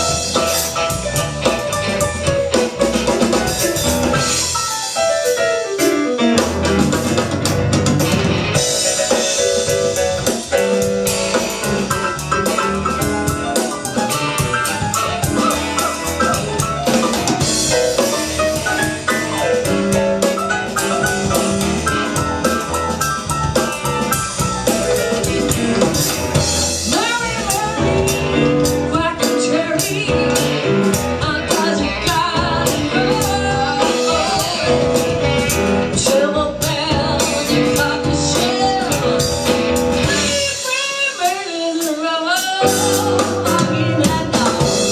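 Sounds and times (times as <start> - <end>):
drum kit beat: 0.0 - 44.9
live band playing r and b: 0.0 - 44.9.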